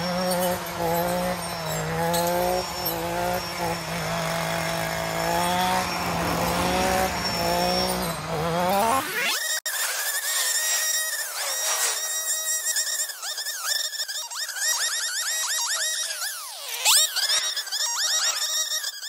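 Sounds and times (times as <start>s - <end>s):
brush-cutter engine cutting brush: 0.0s - 19.0s.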